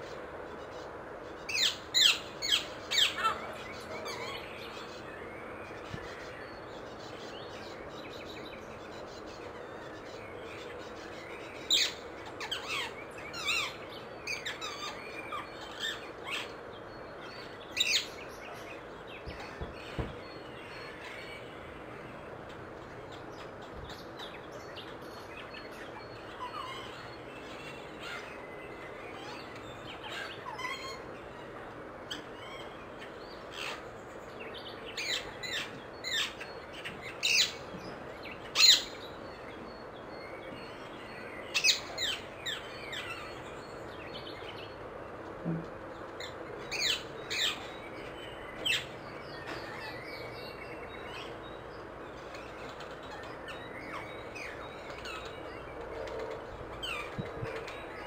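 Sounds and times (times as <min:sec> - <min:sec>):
steady background noise: 0:00.0 - 0:58.0.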